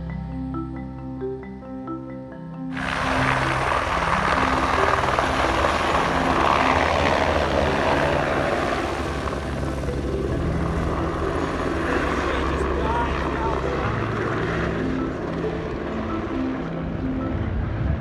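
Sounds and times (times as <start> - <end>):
helicopter rotor chop and turbine: 2.7 - 18.0.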